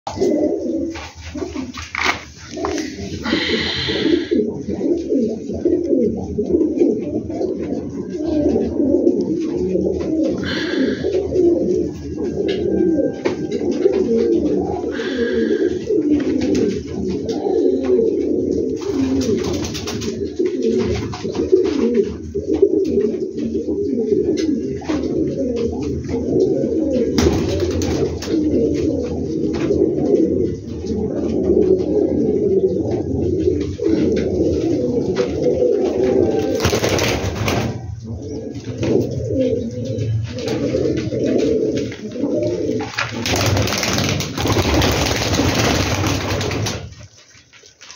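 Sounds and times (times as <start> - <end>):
pigeons cooing: 0.1 - 47.9.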